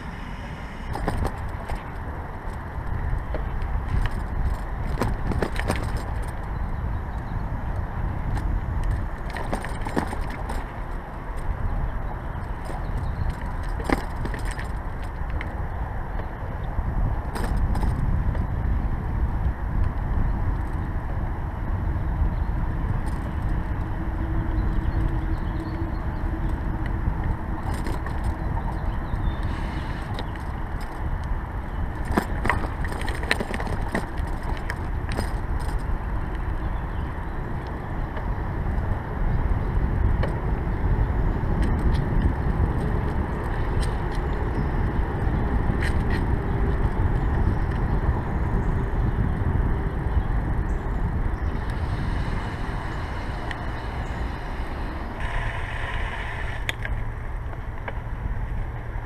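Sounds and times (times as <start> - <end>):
bicycle tyre road noise: 0.0 - 59.0
wind rumble on microphone: 0.0 - 59.0.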